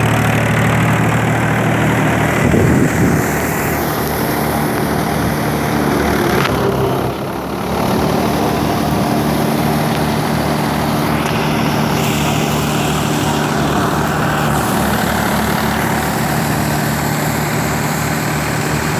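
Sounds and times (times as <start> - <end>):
threshing machine rushing noise: 0.0 - 18.9
tractor engine running: 0.0 - 18.9.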